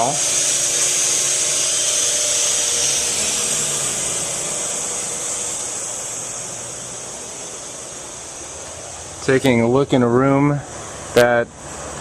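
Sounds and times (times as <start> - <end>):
pool pump motor whirring: 0.0 - 12.0.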